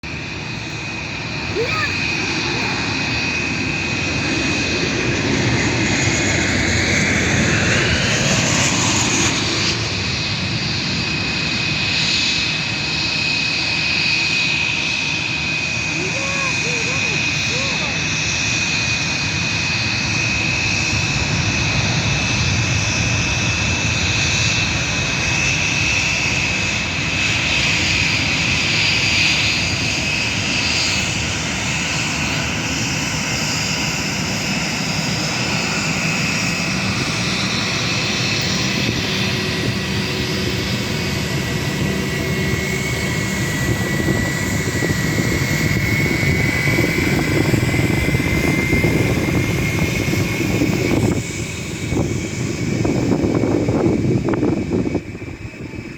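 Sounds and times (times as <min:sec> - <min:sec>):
jet engines whining and rushing: 0:00.0 - 0:55.9.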